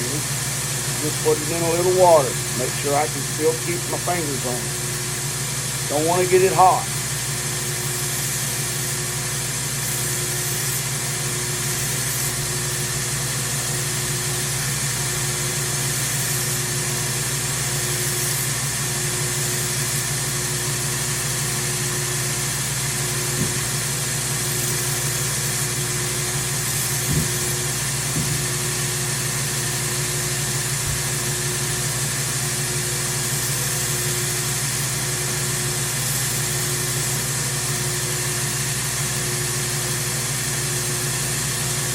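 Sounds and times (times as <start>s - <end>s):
power grinder grinding knife: 0.0s - 41.9s.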